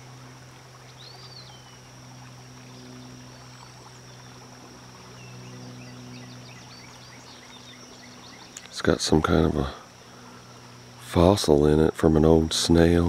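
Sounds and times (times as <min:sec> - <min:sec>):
low hum: 0:00.0 - 0:13.0
running water: 0:00.0 - 0:13.0.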